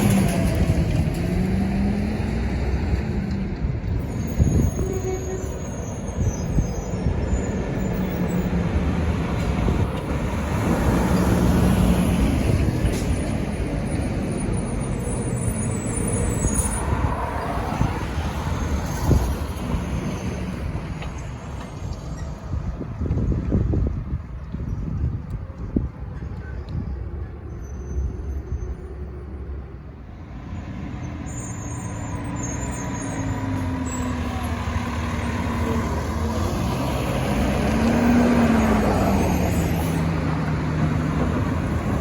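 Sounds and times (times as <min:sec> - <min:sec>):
truck diesel engine passing: 0:00.0 - 0:04.5, 0:06.0 - 0:23.0, 0:28.3 - 0:42.0.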